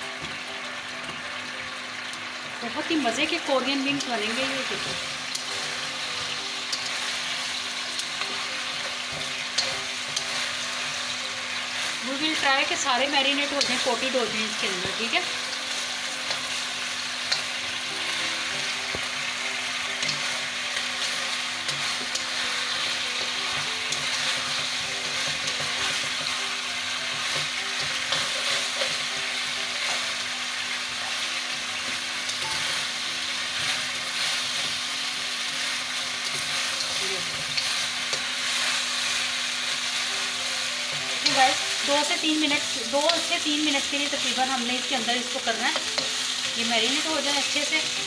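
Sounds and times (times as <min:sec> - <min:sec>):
chicken wings sizzling in wok: 0:00.0 - 0:48.0.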